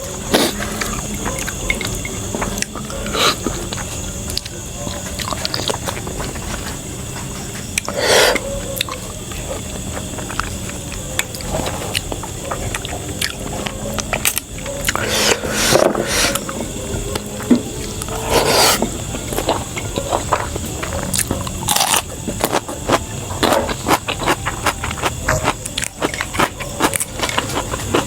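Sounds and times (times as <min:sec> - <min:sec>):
wet mouth eating sounds: 0:00.1 - 0:06.6, 0:07.6 - 0:28.0.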